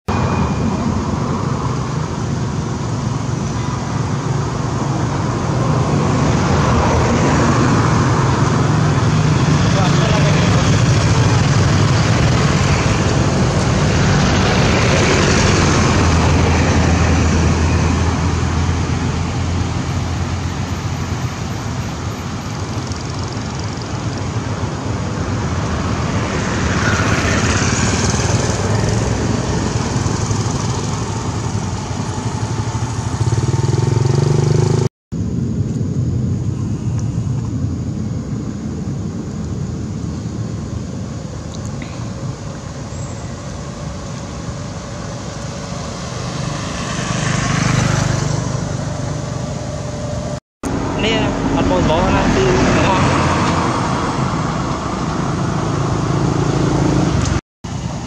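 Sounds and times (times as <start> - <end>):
road traffic with vehicles passing: 0.0 - 58.0.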